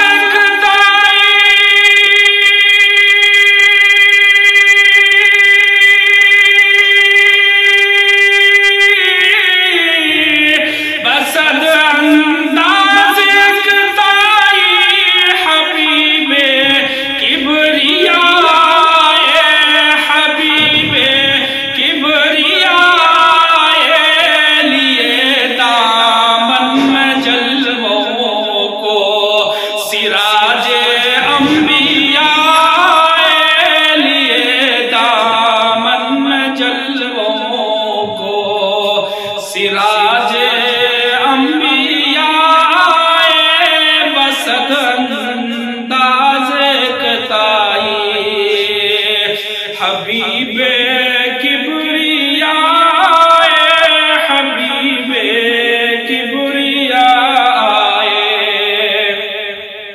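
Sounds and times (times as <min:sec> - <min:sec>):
man singing into a microphone: 0:00.0 - 0:59.9.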